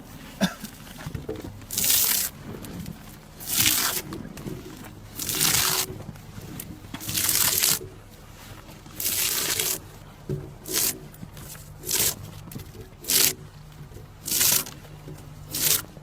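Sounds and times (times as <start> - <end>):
drawknife scraping wood: 1.7 - 16.0.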